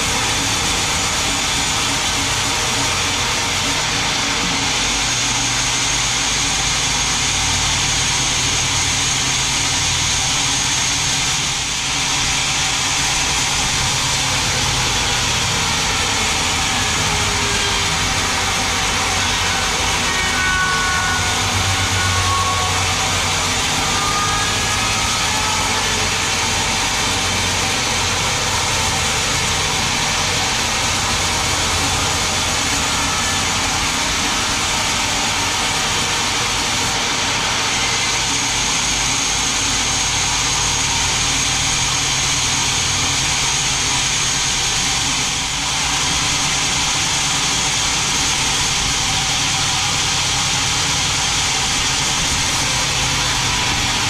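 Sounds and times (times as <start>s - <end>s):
band saw cutting through log: 0.0s - 54.0s
high whine: 0.0s - 54.0s
low motor hum: 0.0s - 54.0s.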